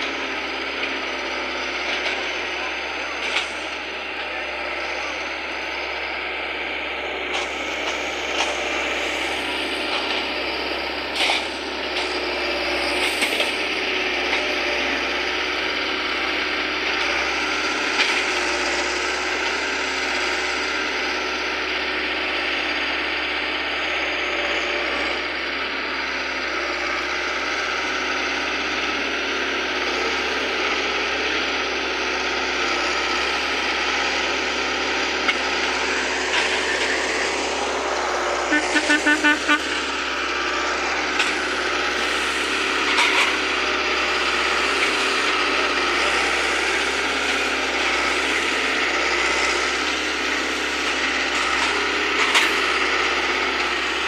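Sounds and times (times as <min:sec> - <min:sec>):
diesel engine clattering: 0:00.0 - 0:54.0.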